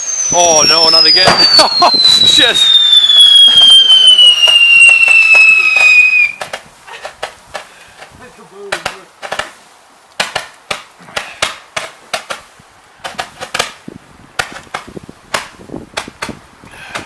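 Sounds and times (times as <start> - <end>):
fireworks popping and cracking: 0.0 - 17.0.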